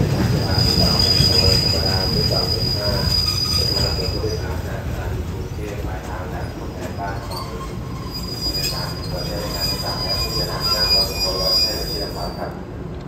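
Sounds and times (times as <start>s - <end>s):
train brakes squealing: 0.0s - 4.8s, 6.2s - 12.6s
train coach rumbling: 0.0s - 13.0s.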